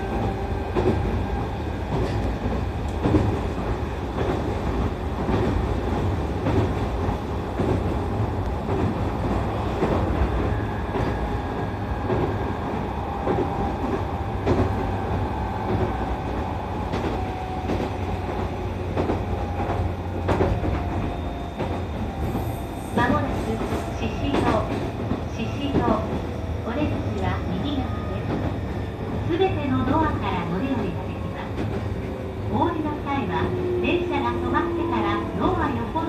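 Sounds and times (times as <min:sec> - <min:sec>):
rail joint clicks: 0:00.0 - 0:36.0
train rumble on track: 0:00.0 - 0:36.0.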